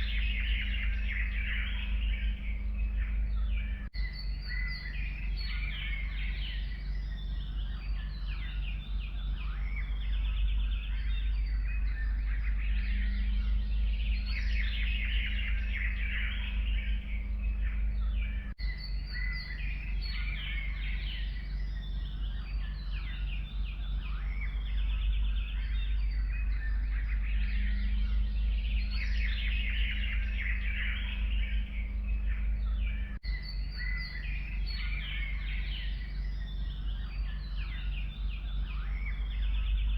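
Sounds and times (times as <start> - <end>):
songbirds singing and chirping: 0.0 - 39.9
steady low rumble: 0.0 - 39.9.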